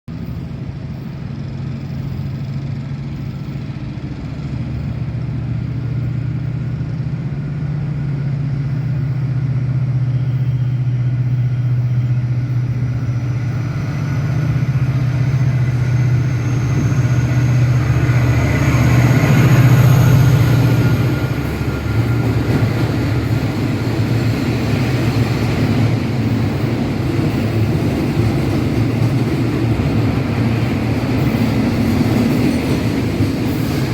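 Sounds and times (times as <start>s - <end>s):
carriages rumbling along track: 0.1s - 33.9s
train engine drone: 0.1s - 33.9s.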